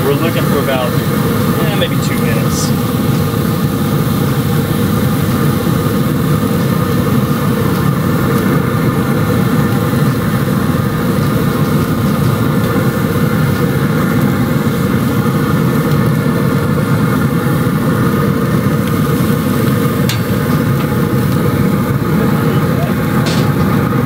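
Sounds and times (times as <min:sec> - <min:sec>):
grill mechanical whir: 0:00.0 - 0:24.0
steak searing on grill: 0:00.0 - 0:24.0.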